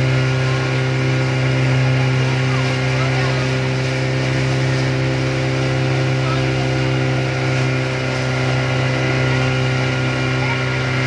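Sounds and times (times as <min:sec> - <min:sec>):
motorboat engine droning: 0:00.0 - 0:11.0
water rushing along hull: 0:00.0 - 0:11.0.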